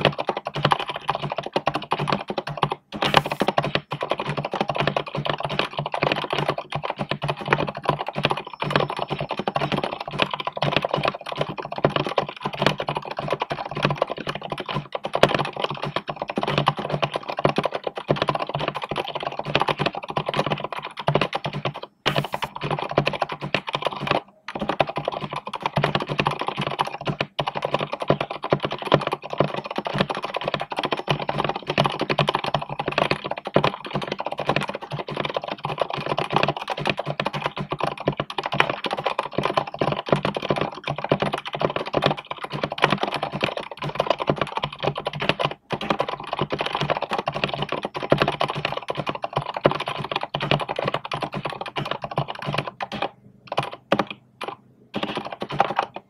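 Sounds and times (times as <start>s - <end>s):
damped keyboard typing: 0.0s - 56.0s.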